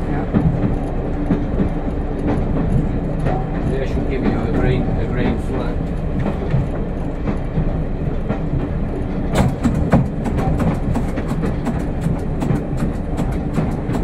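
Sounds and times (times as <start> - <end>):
railcar engine rumble: 0.0 - 14.0
wheels clicking and knocking: 0.0 - 14.0.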